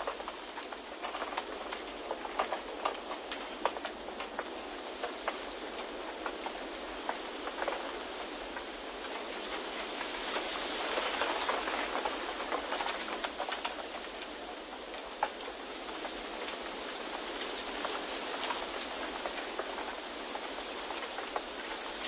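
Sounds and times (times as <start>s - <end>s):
light ticks and patters: 0.0s - 22.0s.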